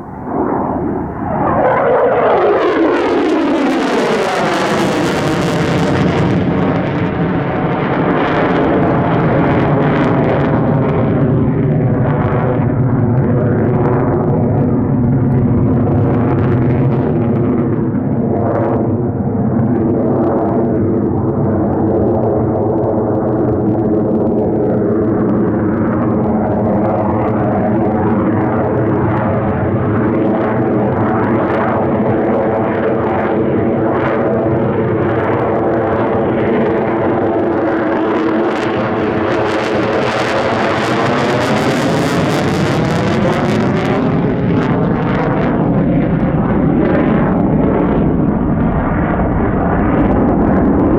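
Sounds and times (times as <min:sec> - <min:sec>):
jet engine roar: 0:00.0 - 0:50.9.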